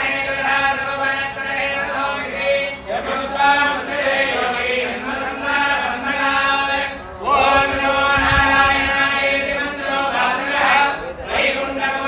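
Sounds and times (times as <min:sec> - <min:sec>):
mantras chanted: 0:00.0 - 0:12.0.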